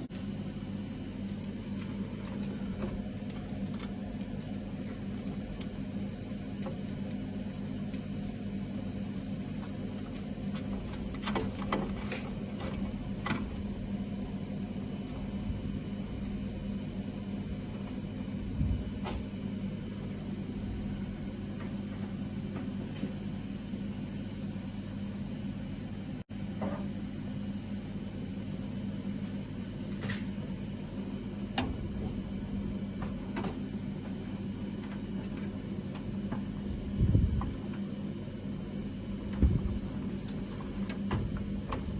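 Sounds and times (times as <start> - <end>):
machine hum with low drone: 0.0 - 41.9.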